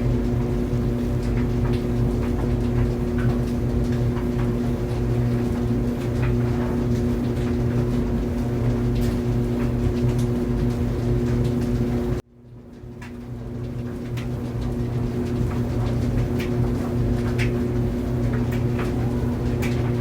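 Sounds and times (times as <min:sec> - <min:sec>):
laundry dryer humming: 0:00.0 - 0:20.0.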